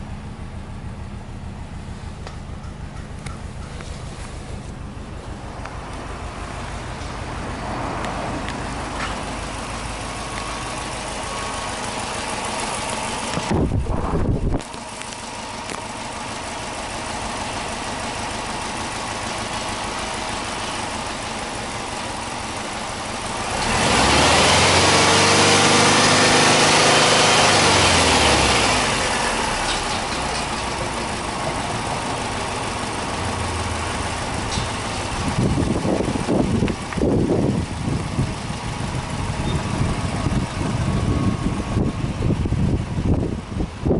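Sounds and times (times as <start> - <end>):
car engine idling and revving: 0.0 - 43.9
loud rumble: 0.0 - 43.9.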